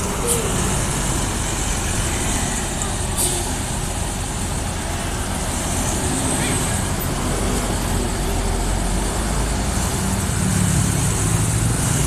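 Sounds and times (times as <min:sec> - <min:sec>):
roadside traffic noise: 0:00.0 - 0:12.0
vehicle engine low drone: 0:00.0 - 0:12.0.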